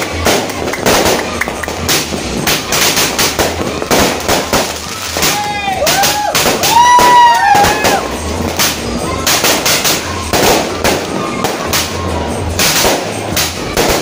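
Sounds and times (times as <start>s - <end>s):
fireworks bangs and crackles: 0.0s - 14.0s
whistling firework shells: 0.0s - 14.0s.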